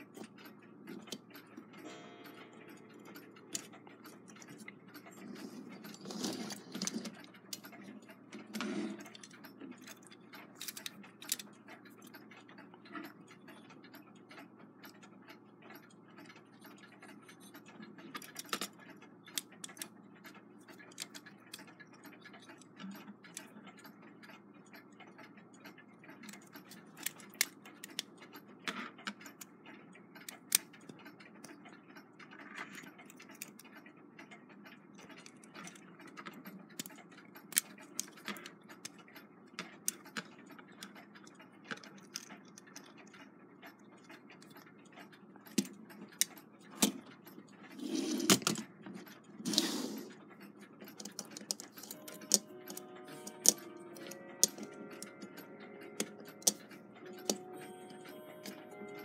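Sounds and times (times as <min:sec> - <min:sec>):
small metallic clicks and taps: 0:00.0 - 0:59.0.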